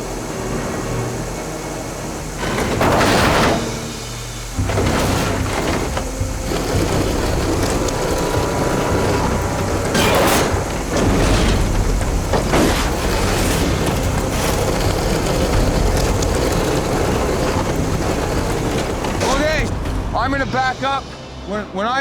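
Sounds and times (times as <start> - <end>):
diesel engine rumbling: 0.0 - 22.0
metallic clanks: 2.3 - 21.3.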